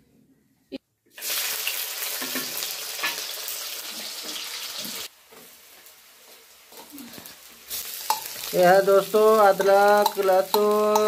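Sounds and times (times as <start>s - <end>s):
onions sizzling in hot oil: 1.1s - 11.0s.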